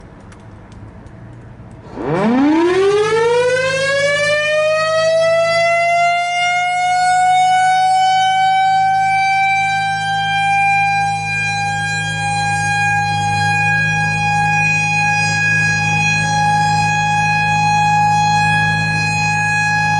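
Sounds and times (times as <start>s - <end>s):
warning siren wailing: 1.8s - 19.9s.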